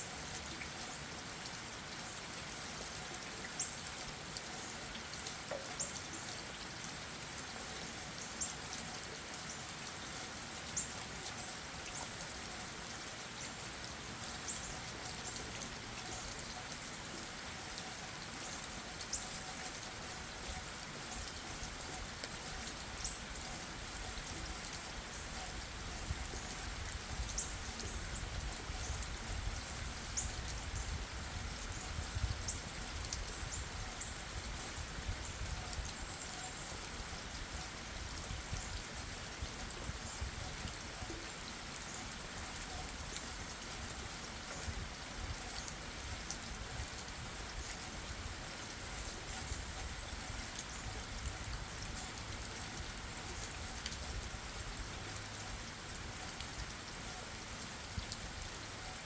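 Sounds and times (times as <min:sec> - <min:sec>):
rain falling on leaves: 0:00.0 - 0:59.0
water drips: 0:00.0 - 0:59.0.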